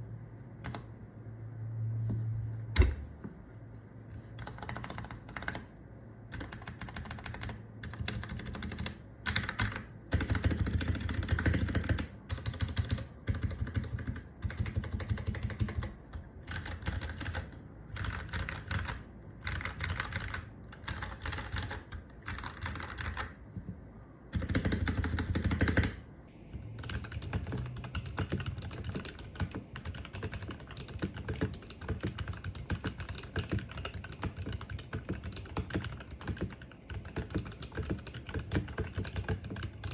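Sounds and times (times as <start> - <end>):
mechanical keyboard typing: 0.6 - 0.9, 4.3 - 5.7, 6.3 - 23.4, 24.3 - 26.0, 26.6 - 39.9.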